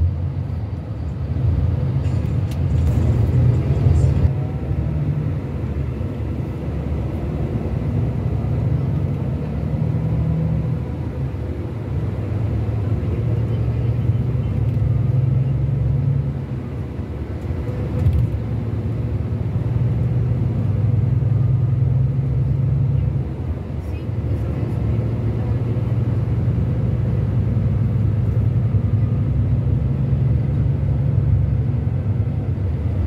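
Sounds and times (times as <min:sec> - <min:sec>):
diesel engine drone: 0:00.0 - 0:33.0.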